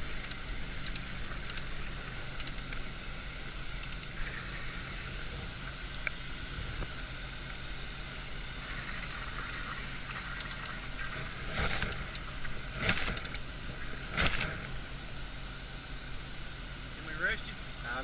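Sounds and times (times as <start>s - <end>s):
engine running with a hiss: 0.0s - 18.0s.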